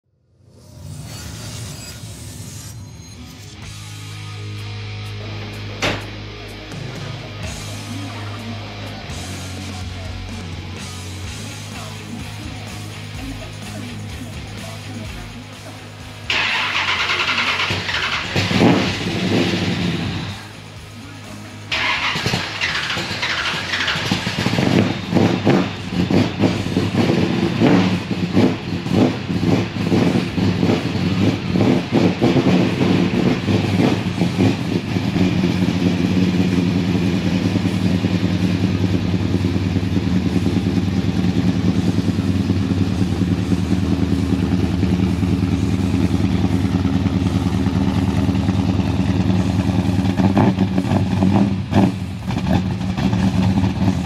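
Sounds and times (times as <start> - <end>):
engine throttle blips: 0.4 - 54.0
car engine idling: 3.6 - 54.0.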